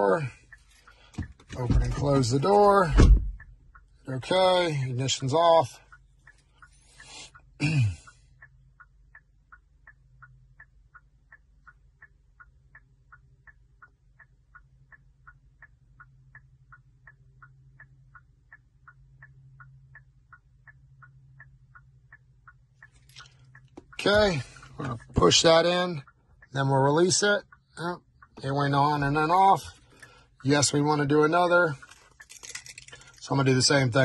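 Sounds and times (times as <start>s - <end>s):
hazard light indicator ticking: 0.0s - 34.0s.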